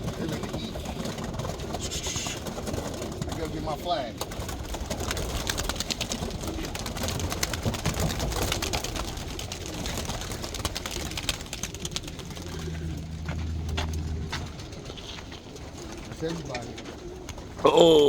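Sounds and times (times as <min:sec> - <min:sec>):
pigeon wings clattering: 0:00.0 - 0:17.6
pigeons cooing: 0:00.0 - 0:18.0.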